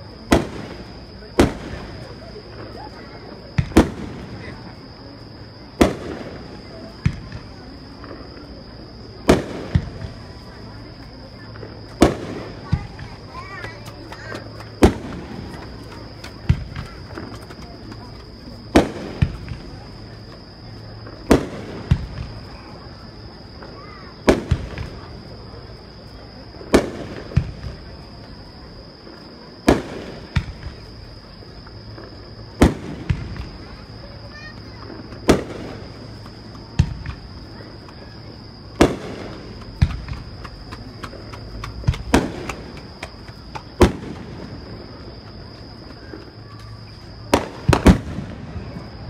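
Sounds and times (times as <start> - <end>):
fireworks booming with echo: 0.0 - 49.0
fireworks crackling: 0.0 - 49.0.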